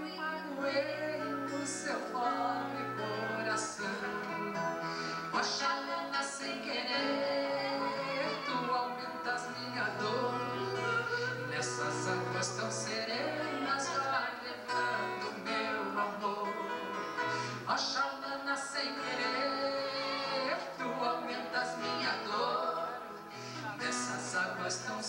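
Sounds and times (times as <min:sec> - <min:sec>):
man and woman singing: 0:00.0 - 0:25.0.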